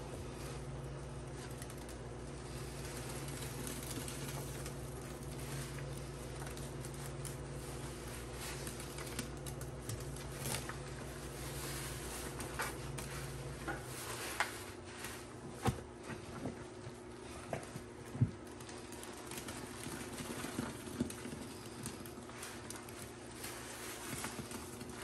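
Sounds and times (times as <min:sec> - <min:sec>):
low background hum: 0:00.0 - 0:25.0.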